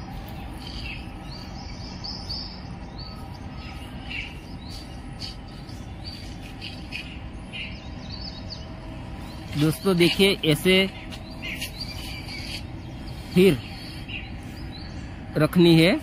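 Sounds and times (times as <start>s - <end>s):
small birds chirping: 0.0s - 16.0s
steady low background noise: 0.0s - 16.0s.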